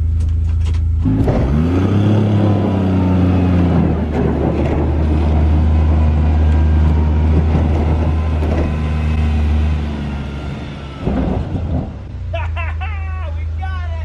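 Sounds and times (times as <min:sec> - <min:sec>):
utility vehicle engine revving: 0:00.0 - 0:12.4.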